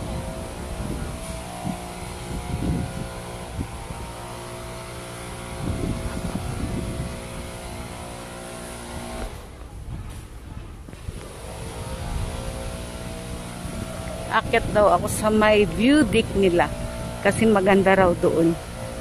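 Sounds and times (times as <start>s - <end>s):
low rumble gusts: 0.0s - 19.0s
motor engine running: 0.0s - 19.0s.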